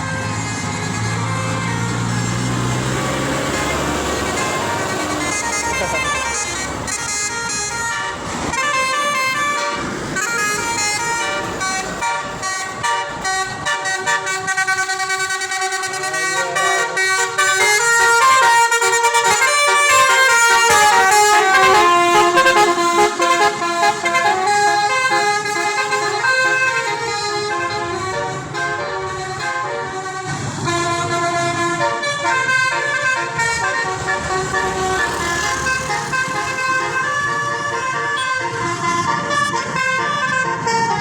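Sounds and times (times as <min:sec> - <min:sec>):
bus musical horn playing melody: 0:00.0 - 0:41.0.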